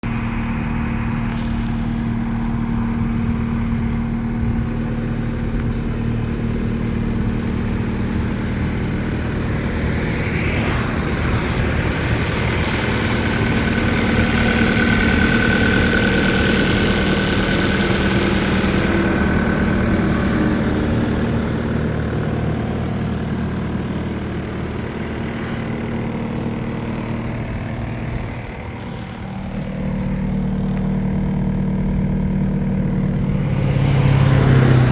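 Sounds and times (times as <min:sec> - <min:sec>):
diesel engine running: 0:00.0 - 0:34.9
high steady whine: 0:00.1 - 0:34.1.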